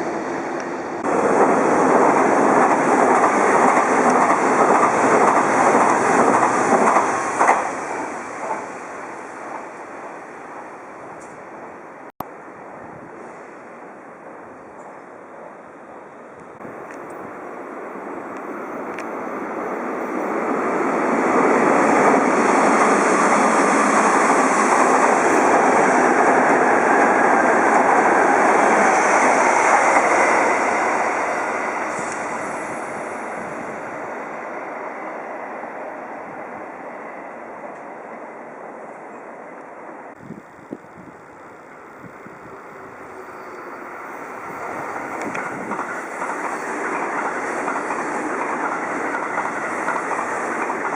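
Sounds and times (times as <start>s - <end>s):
electric train passing: 0.0s - 50.9s.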